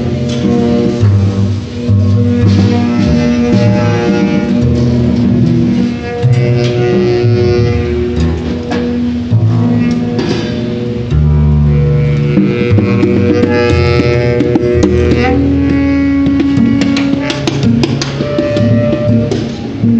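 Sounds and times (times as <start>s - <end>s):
double bass: 0.0s - 19.9s
plucked and clicking notes: 0.0s - 19.9s
saxophone long held notes: 0.0s - 19.9s.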